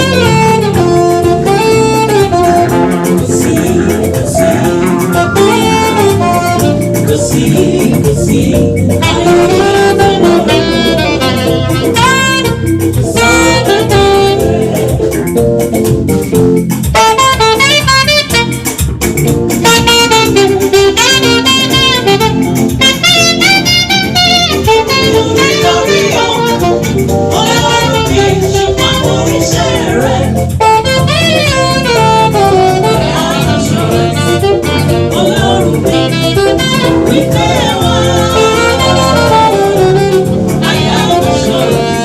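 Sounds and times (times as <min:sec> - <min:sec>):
live band accompaniment: 0:00.0 - 0:42.0
saxophone melody: 0:00.0 - 0:42.0.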